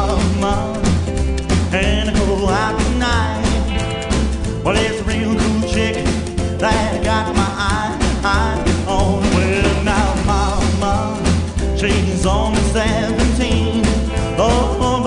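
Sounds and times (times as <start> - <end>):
pulsing bass line: 0.0 - 15.0
rockabilly band music: 0.0 - 15.0.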